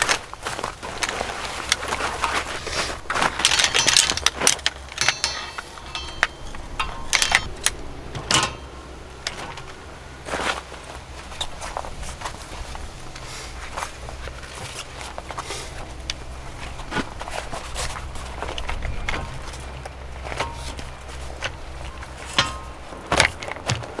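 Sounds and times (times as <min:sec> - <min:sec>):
rustles and clinks of handling: 0:00.0 - 0:24.0.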